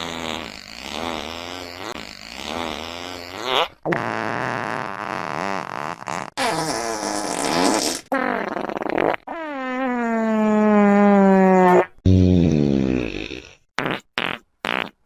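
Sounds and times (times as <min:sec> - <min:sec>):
fart sound effects: 0:00.0 - 0:15.0
long buzzing fart: 0:00.0 - 0:15.0.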